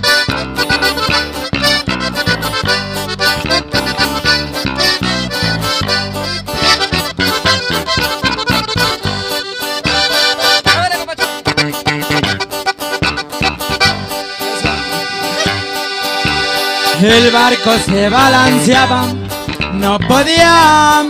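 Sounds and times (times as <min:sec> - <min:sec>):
accordion melody: 0:00.0 - 0:21.0
bass line: 0:00.0 - 0:21.0.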